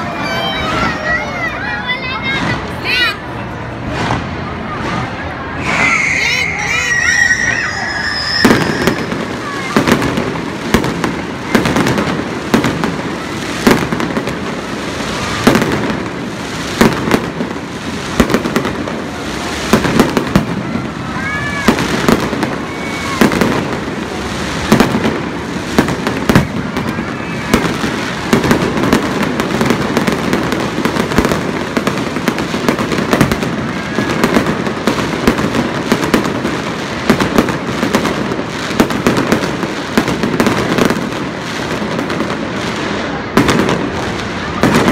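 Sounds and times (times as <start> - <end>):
firework bangs: 0.0 - 44.9
firework crackling: 0.0 - 44.9.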